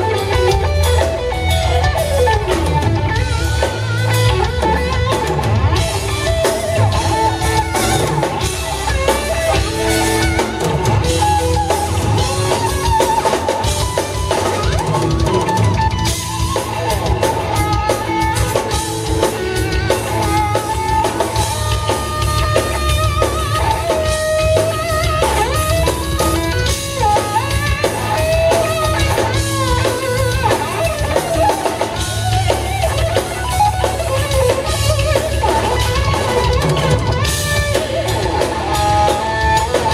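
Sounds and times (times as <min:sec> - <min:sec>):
bass guitar: 0:00.0 - 0:39.9
drum kit: 0:00.0 - 0:39.9
electric guitar lead melody: 0:00.0 - 0:39.9.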